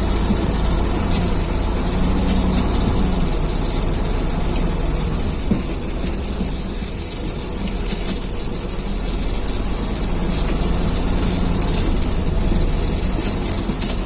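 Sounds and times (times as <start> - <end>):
heavy vehicle engine rumbling: 0.0 - 14.0.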